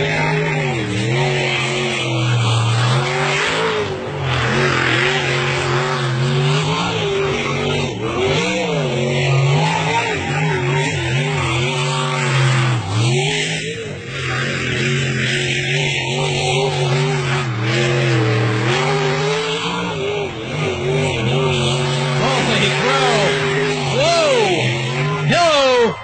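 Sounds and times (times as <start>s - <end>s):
racing car engine revving: 0.0s - 26.0s.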